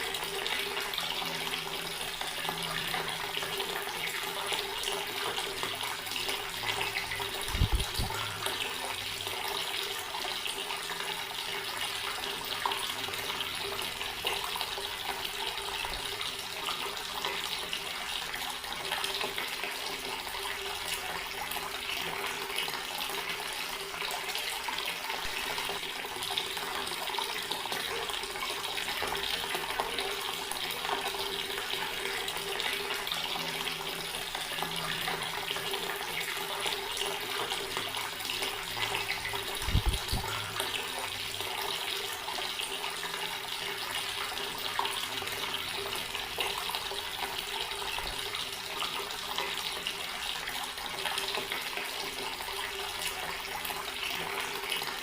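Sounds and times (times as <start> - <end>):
water running from a tap: 0.0 - 55.0.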